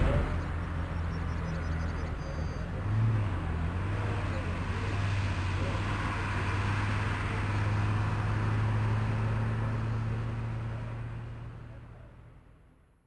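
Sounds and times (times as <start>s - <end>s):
road noise hiss: 0.0s - 12.6s
vehicle engines droning: 0.0s - 13.0s.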